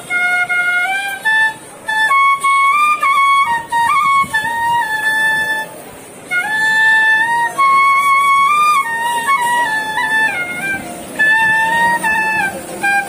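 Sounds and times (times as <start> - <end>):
solo wind instrument melody: 0.0 - 13.0.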